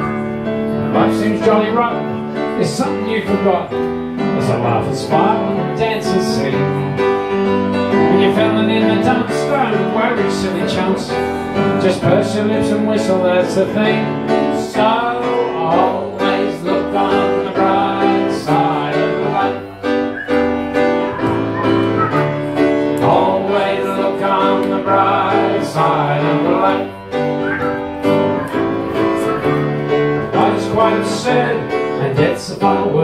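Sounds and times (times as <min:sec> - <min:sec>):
grand piano: 0:00.0 - 0:33.0
man singing: 0:00.8 - 0:07.0, 0:07.9 - 0:19.8, 0:23.0 - 0:27.8, 0:29.0 - 0:33.0.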